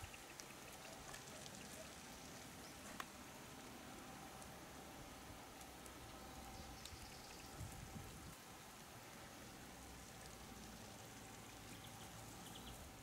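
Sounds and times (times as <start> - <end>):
low steady hiss: 0.0 - 13.0
water drips and ticks: 0.0 - 13.0.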